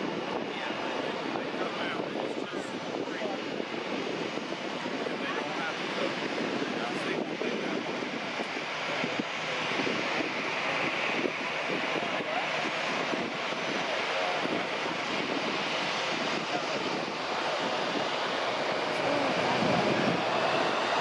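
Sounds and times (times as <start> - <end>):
airliner engines rushing: 0.0 - 21.0
wind gusting on microphone: 0.0 - 21.0.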